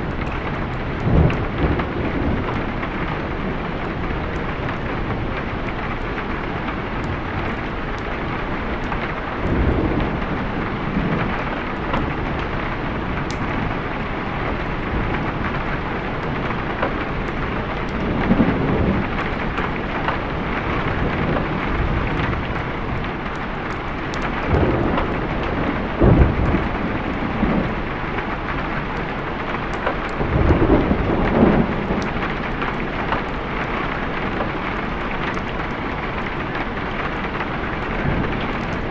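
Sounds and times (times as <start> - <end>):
steady rain: 0.0 - 38.9
thunder rumbling: 0.0 - 38.9.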